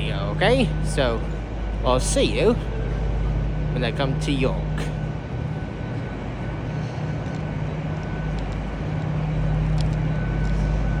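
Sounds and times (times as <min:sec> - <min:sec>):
thin steady whine: 0:00.0 - 0:11.0
train low drone: 0:00.0 - 0:11.0.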